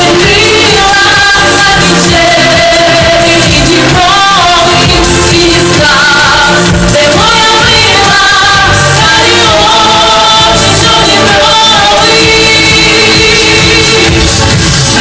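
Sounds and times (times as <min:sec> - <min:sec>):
women singing in harmony: 0:00.0 - 0:14.4
music: 0:00.0 - 0:15.0.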